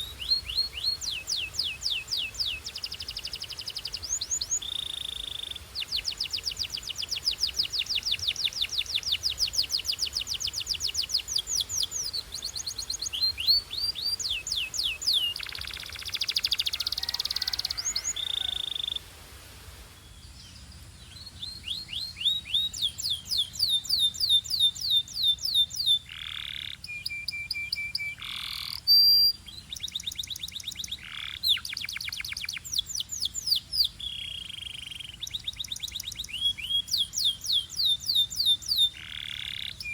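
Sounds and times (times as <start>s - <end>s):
canary singing trills: 0.0s - 19.0s, 20.5s - 39.9s.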